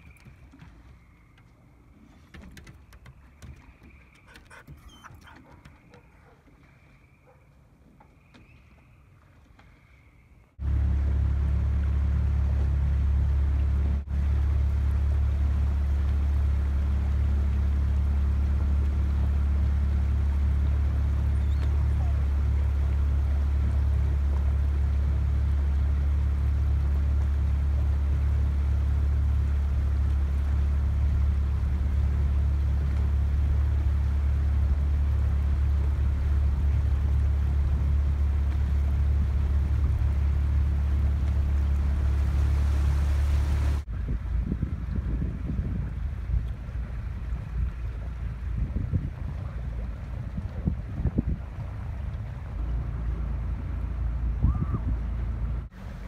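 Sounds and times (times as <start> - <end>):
boat motor humming: 0.0 - 9.4, 10.6 - 56.0.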